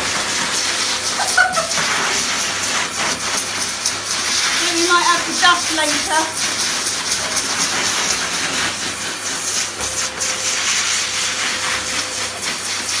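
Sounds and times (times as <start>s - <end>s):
dog dryer blowing air: 0.0s - 13.0s.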